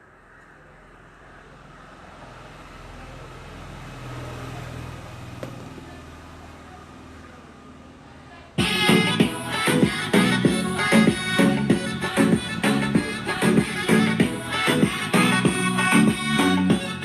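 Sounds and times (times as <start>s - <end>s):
motor engine passing by: 0.1s - 17.0s.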